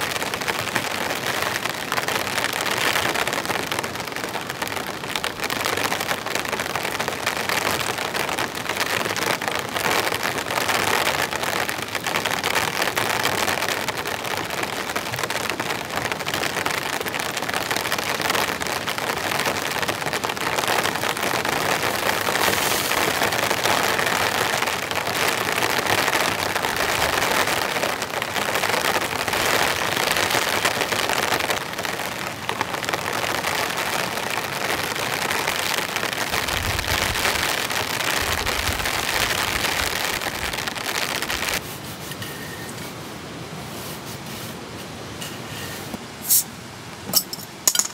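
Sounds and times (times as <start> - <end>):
heavy rain on a tent: 0.0 - 47.9.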